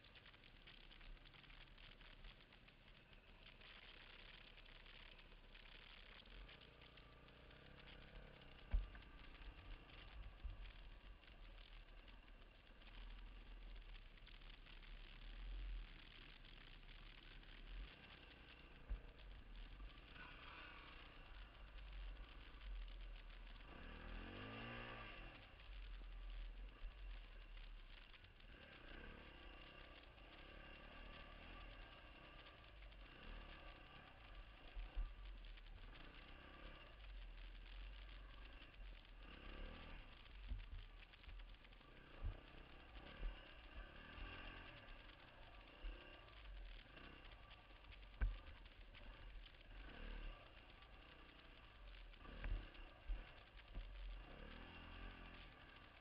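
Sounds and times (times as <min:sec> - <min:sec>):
dirt bike engine running: 0:00.0 - 0:56.0
low rumble: 0:00.0 - 0:56.0.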